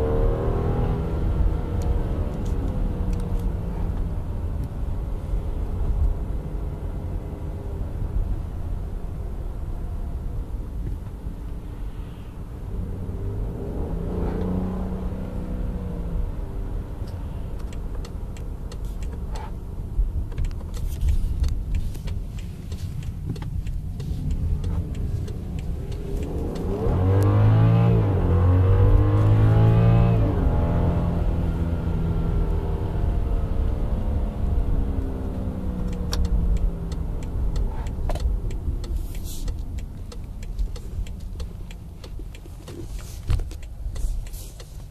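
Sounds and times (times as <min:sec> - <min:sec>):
car engine accelerating: 0:00.0 - 0:10.0, 0:11.9 - 0:44.9.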